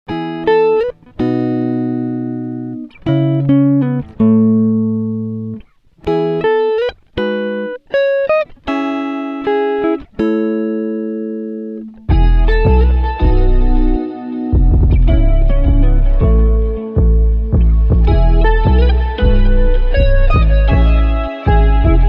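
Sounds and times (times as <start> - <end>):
plucked guitar music: 0.1 - 22.0.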